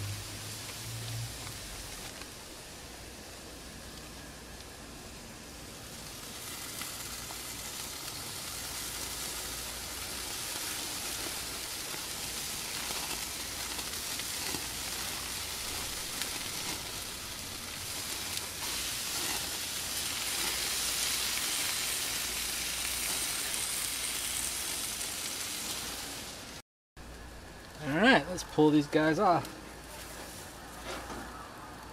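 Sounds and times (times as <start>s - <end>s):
fish sizzling on a grill: 0.0s - 31.9s.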